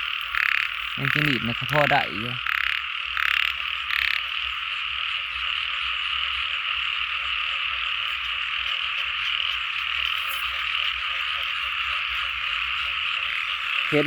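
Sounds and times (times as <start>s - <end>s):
frogs calling in chorus: 0.0s - 14.0s.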